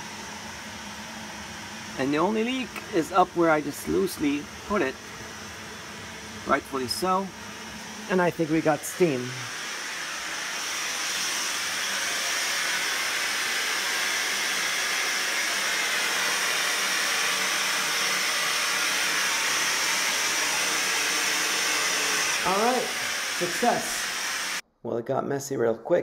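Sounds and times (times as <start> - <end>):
steam hissing: 0.0 - 24.6.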